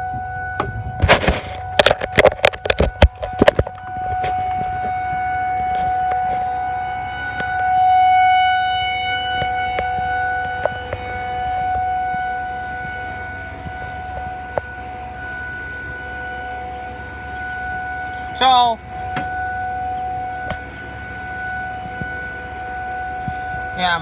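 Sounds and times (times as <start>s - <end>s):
warning siren steady tone: 0.0s - 24.0s.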